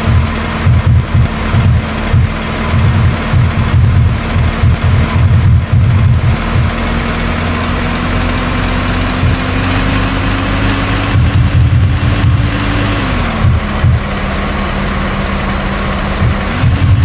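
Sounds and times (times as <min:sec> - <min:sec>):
engine running: 0:00.0 - 0:17.0
steady tone dropping in pitch: 0:00.0 - 0:17.0.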